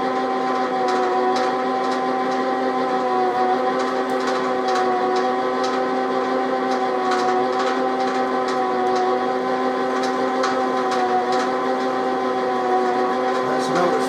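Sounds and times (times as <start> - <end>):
metal lathe motor hum: 0.0 - 14.0.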